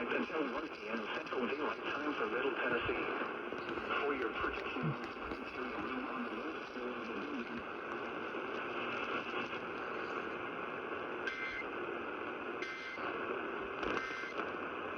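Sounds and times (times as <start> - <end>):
radio static hiss: 0.0 - 14.9.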